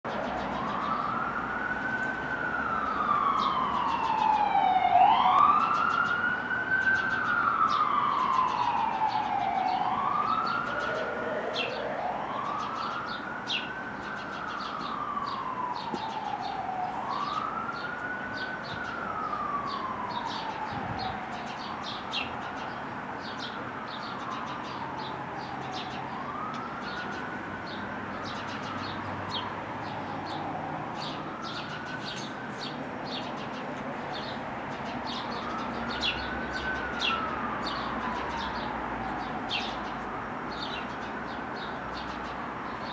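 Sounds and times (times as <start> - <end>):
siren wailing: 0.1 - 33.6, 34.2 - 42.9
higher siren: 0.1 - 42.9
sparrows chirping: 3.2 - 4.4, 5.6 - 42.9.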